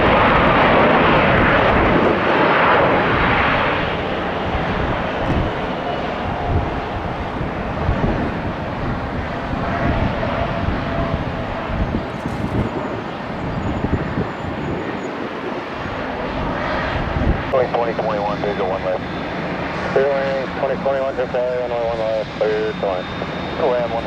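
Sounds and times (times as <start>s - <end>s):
wind gusting on microphone: 0.0s - 19.8s
faint engine whine: 0.0s - 24.0s
jet engines running: 0.0s - 24.0s.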